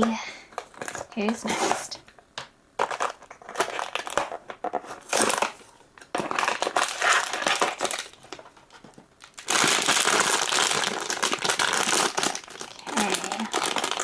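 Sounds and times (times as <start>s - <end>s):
packaging crinkling: 0.4s - 2.2s, 2.8s - 14.0s.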